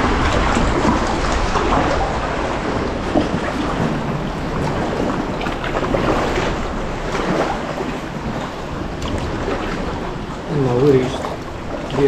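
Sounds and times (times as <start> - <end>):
paddle splashes: 0.0 - 12.0
sea water lapping and splashing: 0.0 - 12.0
wind rumble on microphone: 0.0 - 12.0.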